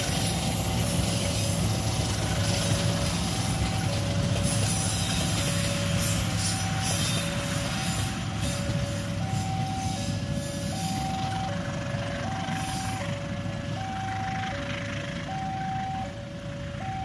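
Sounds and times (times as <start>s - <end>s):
train coaches rumbling: 0.0s - 16.8s.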